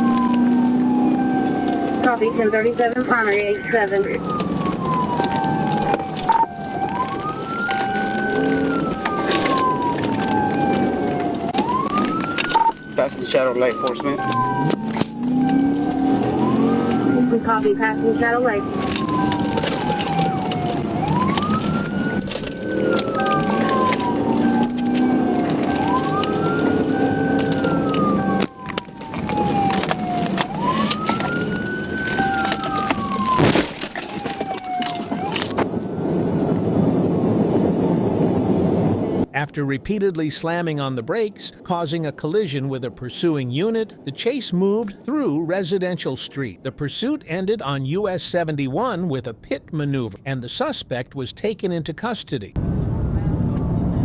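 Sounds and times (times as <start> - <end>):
police siren wailing: 0.0 - 51.3
road and engine noise: 0.0 - 54.0.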